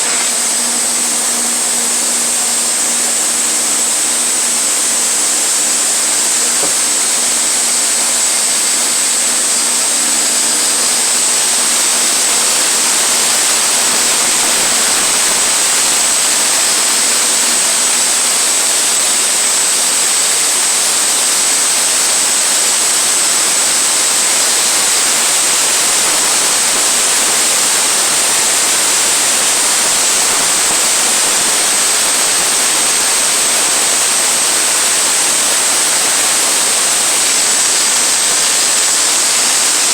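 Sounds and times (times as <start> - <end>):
sawmill blade cutting log: 0.0 - 18.8, 22.1 - 39.6.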